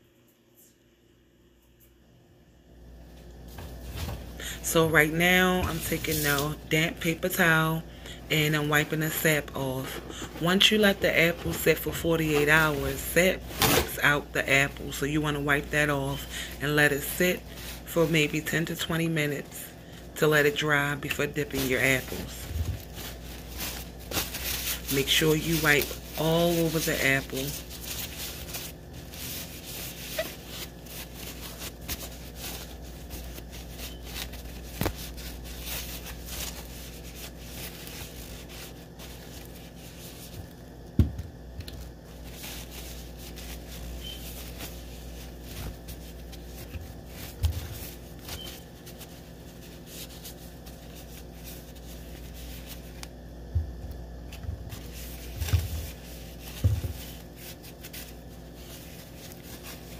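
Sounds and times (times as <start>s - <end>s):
damp paper towel rubbing and crinkling: 3.4s - 40.6s, 41.8s - 53.2s, 54.6s - 59.9s.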